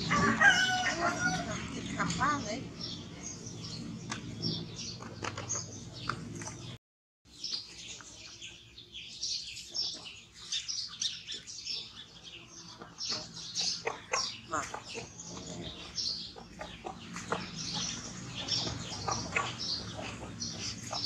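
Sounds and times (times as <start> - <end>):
small birds chirping: 0.8 - 21.0.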